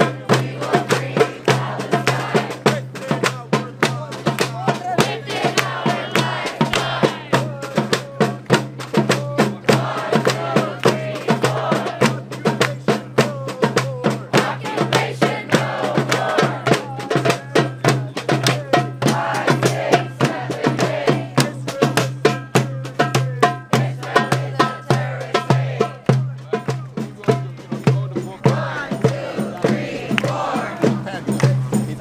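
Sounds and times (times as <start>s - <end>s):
crowd chanting: 0.0s - 3.3s, 4.5s - 8.0s, 9.1s - 12.9s, 14.2s - 32.0s
drum beaten in fast rhythm: 0.0s - 32.0s.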